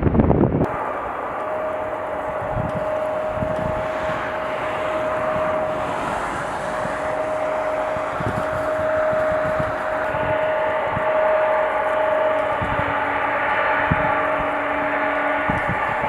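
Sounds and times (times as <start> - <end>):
steady engine whine: 0.5 - 16.0
jet engines roaring: 0.6 - 16.0.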